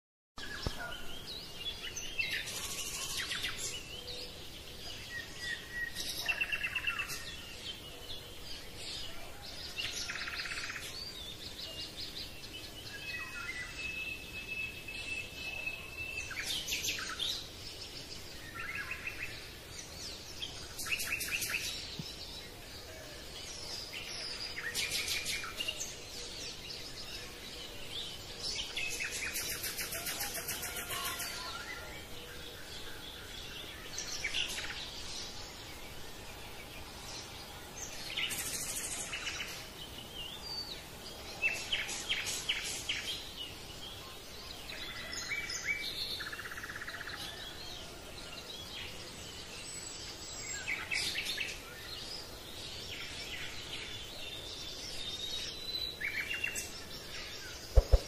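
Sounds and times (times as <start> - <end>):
birds singing: 0.4 - 58.0.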